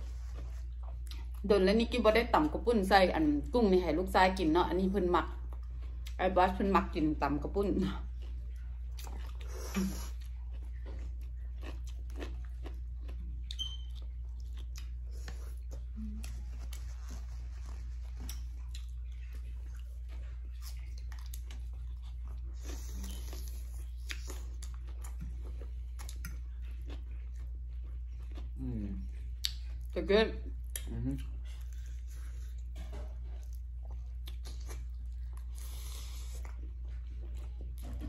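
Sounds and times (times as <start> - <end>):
chewing and crunching food: 0.0 - 2.6, 3.3 - 38.0.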